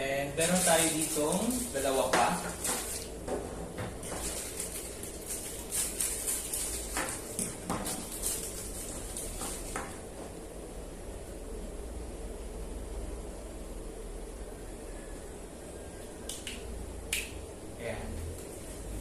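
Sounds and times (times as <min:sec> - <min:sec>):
background hum and hiss: 0:00.0 - 0:19.0.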